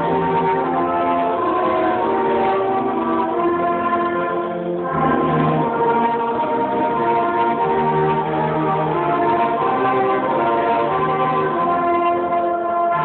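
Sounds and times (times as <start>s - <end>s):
brass band playing chords: 0.0s - 13.0s.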